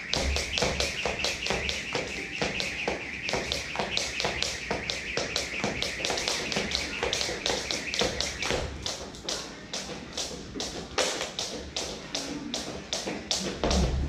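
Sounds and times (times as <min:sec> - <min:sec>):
faint background music: 0:00.0 - 0:14.0
jump rope slapping wooden floor: 0:00.0 - 0:14.0.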